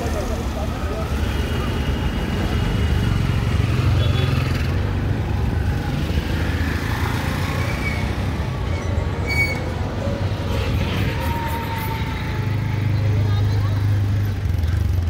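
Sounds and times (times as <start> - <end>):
motorbikes and cars passing: 0.0 - 15.0.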